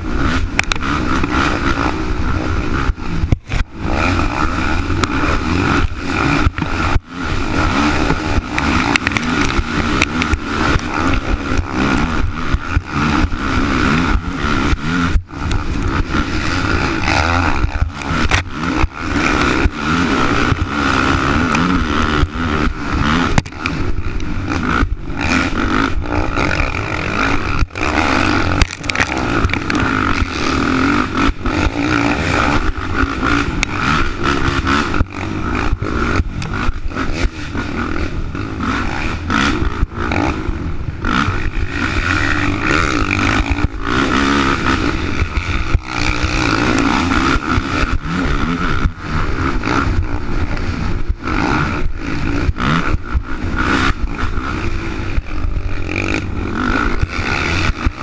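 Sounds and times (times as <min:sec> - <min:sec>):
quad engine revving hard: 0:00.0 - 0:58.0.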